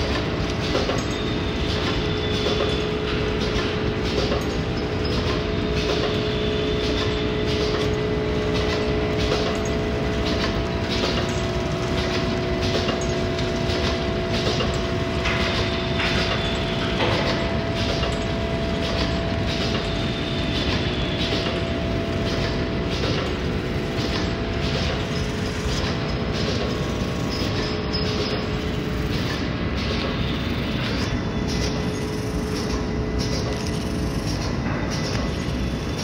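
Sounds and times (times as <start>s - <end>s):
machine clacking: 0.0s - 36.0s
packing machine humming: 0.0s - 36.0s.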